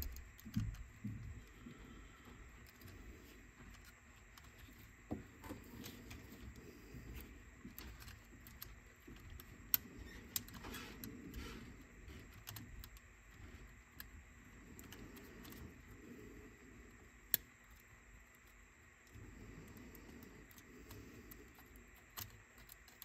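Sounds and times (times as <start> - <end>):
small parts and tools clicking: 0.0 - 23.0.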